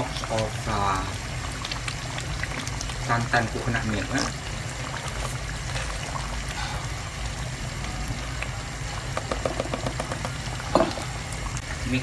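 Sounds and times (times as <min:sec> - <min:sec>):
coconut milk pouring into pot: 0:00.0 - 0:12.0.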